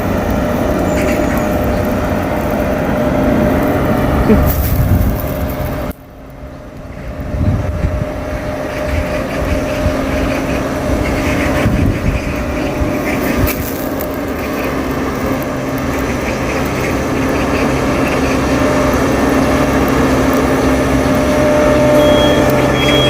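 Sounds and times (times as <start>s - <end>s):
road roller engine running: 0.0s - 23.0s.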